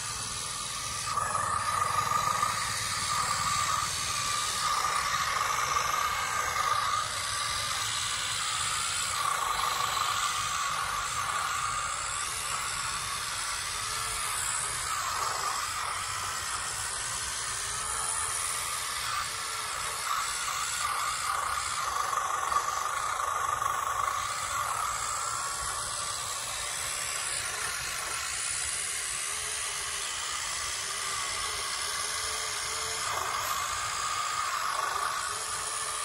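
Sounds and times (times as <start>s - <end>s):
hiss: 0.0s - 36.0s
model tractor motor whine: 0.0s - 36.0s.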